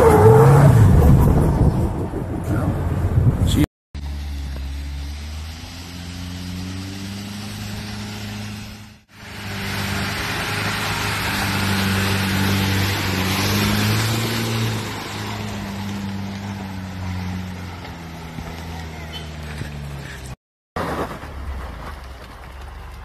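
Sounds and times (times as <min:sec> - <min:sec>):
truck engine pulling through mud: 0:04.0 - 0:23.0.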